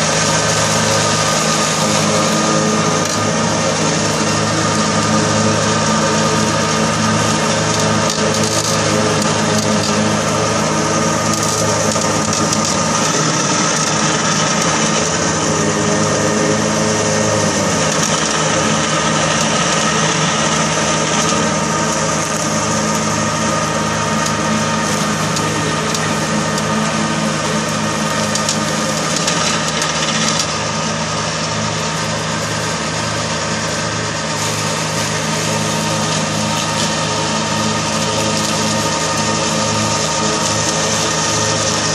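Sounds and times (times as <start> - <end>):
rotary mower cutting grass: 0.0 - 41.9
tractor diesel engine running: 0.0 - 41.9.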